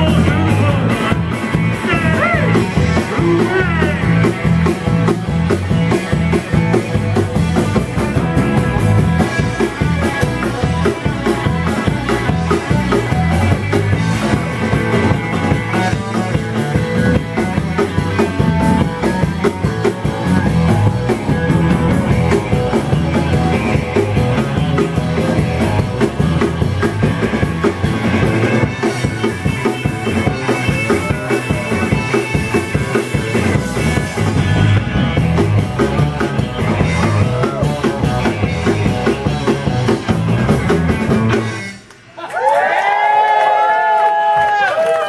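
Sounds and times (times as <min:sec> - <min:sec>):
bass guitar: 0:00.0 - 0:42.2
drum kit: 0:00.0 - 0:42.2
electric guitar: 0:00.0 - 0:42.2.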